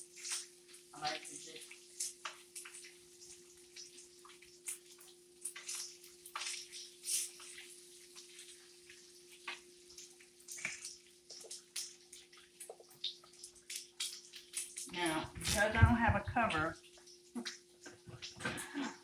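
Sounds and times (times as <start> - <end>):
hot grease popping: 0.0 - 18.9
meat sizzling in a pan: 0.0 - 19.0.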